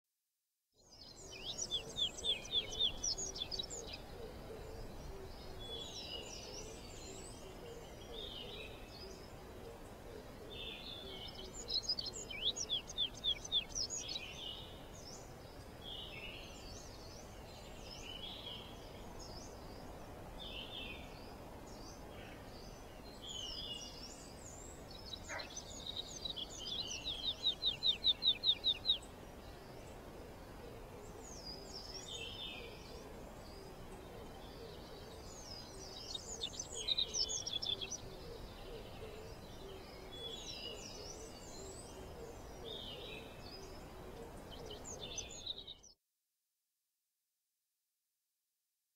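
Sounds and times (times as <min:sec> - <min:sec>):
faint steady hiss: 0:00.8 - 0:45.9
songbirds singing trills: 0:00.8 - 0:46.0.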